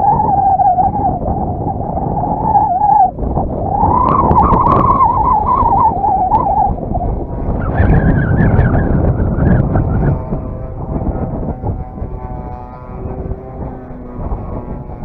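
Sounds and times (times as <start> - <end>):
model plane engine droning: 0.0 - 15.0
wind buffeting microphone: 0.0 - 15.0.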